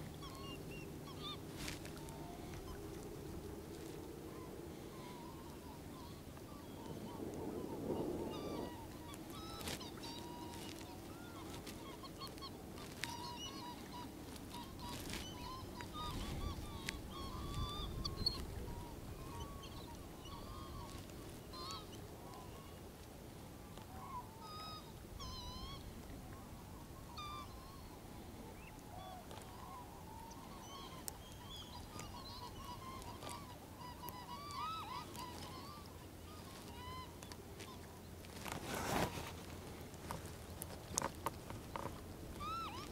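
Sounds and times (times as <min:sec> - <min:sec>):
low rumble of wind: 0:00.0 - 0:42.9
waterbirds calling: 0:00.0 - 0:42.9.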